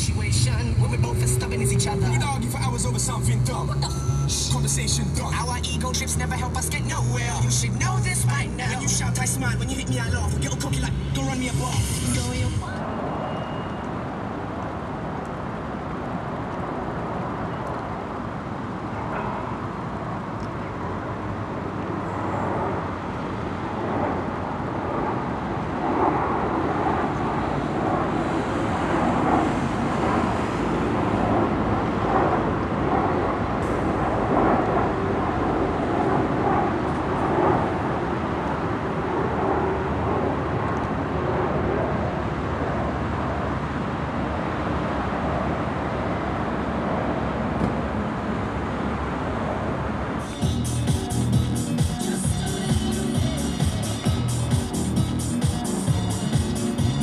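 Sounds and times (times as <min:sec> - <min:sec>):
jet engines roaring: 0:00.0 - 0:57.0
road traffic noise: 0:00.0 - 0:57.0.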